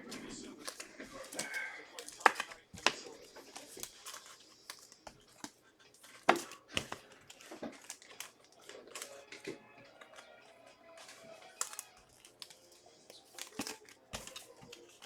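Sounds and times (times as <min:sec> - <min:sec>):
trading cards tapping and clicking: 0:00.0 - 0:15.0.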